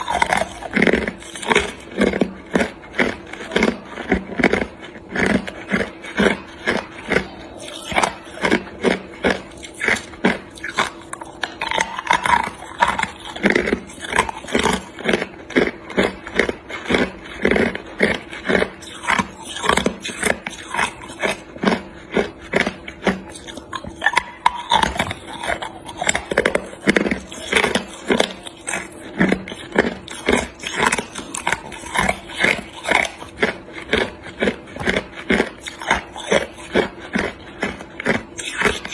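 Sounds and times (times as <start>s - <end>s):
ice cubes crunched by teeth: 0.0s - 38.9s.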